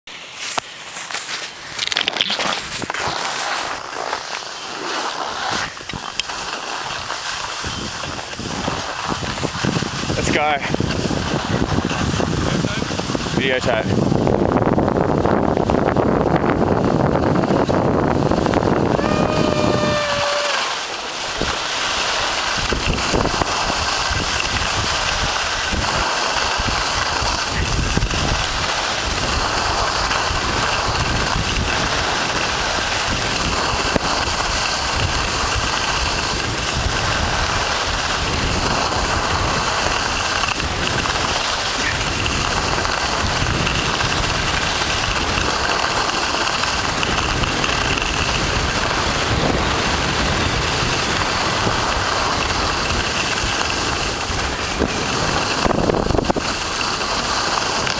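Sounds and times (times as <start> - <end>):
skis sliding over snow: 0.1 - 57.9
wind on microphone: 1.8 - 57.9.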